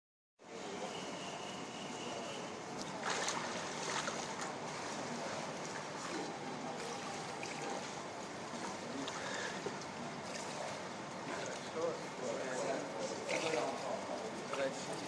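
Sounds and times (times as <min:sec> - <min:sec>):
sea water splashing and lapping: 0:02.7 - 0:15.0.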